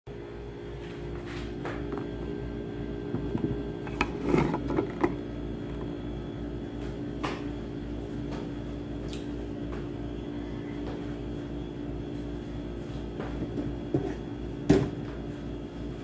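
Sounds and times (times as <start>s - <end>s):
steady electrical hum: 0.1s - 16.0s.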